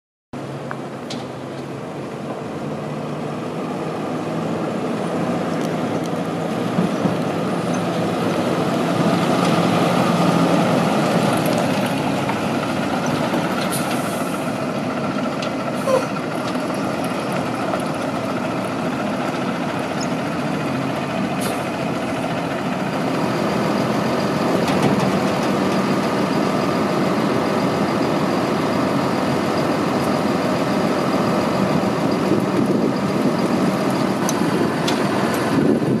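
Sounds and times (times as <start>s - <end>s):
truck diesel engine running: 0.4s - 36.0s.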